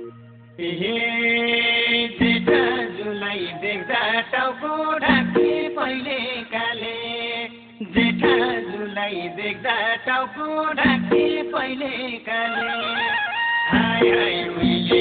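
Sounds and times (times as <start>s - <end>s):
person singing folk melody: 0.0s - 15.0s.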